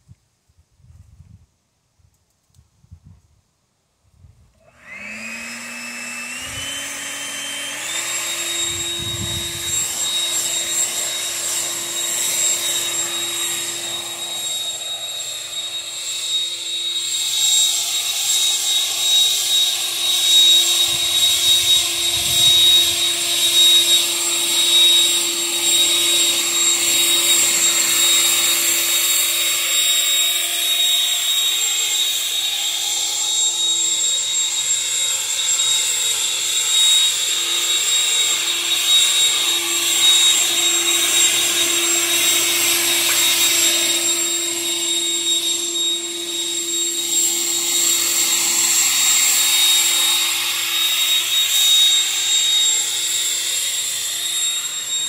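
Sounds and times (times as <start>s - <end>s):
leaf blower running: 4.6s - 55.0s.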